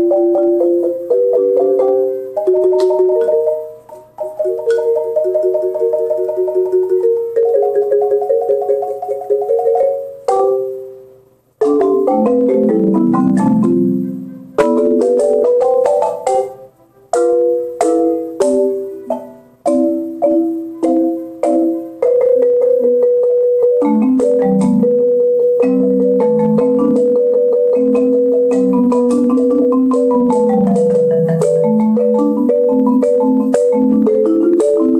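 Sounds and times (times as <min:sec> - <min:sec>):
marimba played with mallets: 0:00.0 - 0:34.9.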